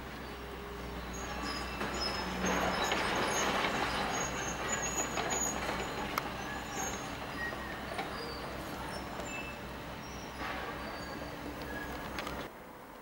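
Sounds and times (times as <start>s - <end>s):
diesel engines running: 0.0s - 12.9s
high metallic squeals: 0.2s - 12.5s
steel grinding and scraping: 0.3s - 12.5s.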